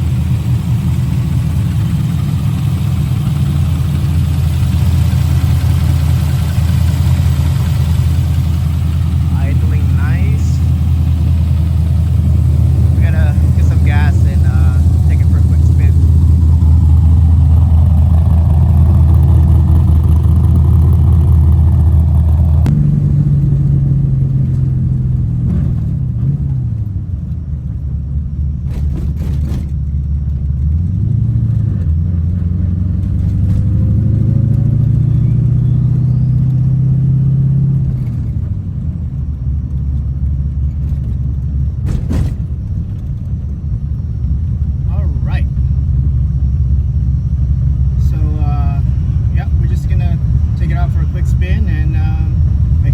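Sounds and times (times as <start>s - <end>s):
car engine revving: 0.0s - 27.0s, 30.4s - 38.4s, 44.2s - 52.9s.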